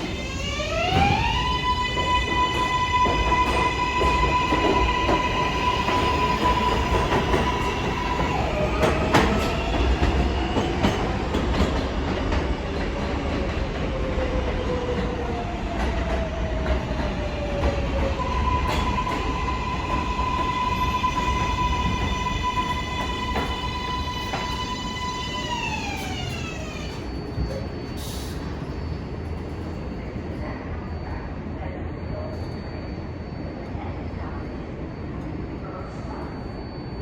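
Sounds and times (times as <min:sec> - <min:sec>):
subway train rumble: 0:00.0 - 0:37.0.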